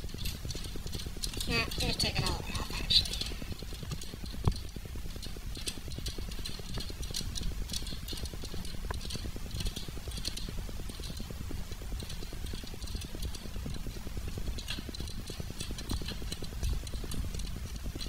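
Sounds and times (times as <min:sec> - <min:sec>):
nut clicking as it spins: 0:00.0 - 0:18.0.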